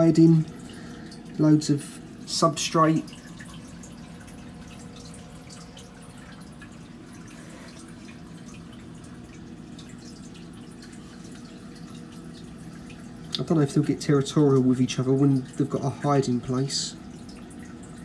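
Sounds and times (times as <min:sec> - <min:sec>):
low equipment hum: 0:00.0 - 0:18.0
water dripping and trickling: 0:00.0 - 0:18.0.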